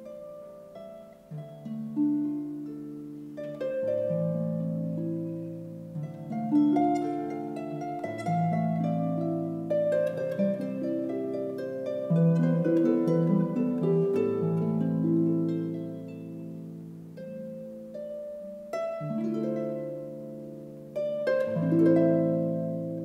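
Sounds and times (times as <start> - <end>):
harp playing solo: 0.0 - 23.0.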